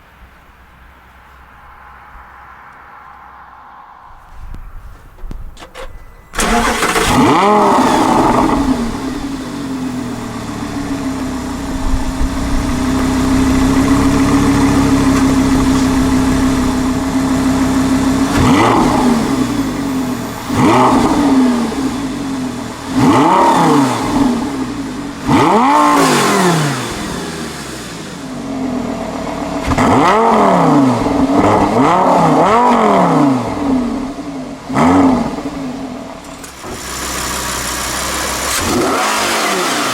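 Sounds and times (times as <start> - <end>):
sports car exhaust revving: 6.3 - 39.9.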